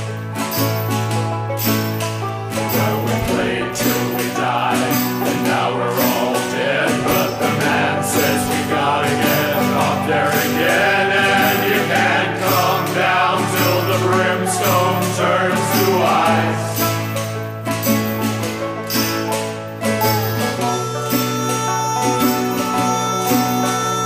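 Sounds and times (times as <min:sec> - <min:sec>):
band playing a song: 0:00.0 - 0:24.0.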